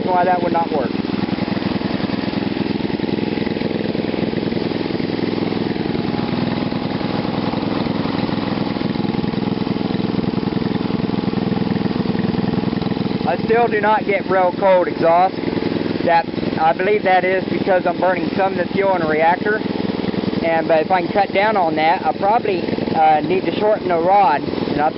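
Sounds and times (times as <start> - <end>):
gasoline engine idling: 0.0 - 24.9.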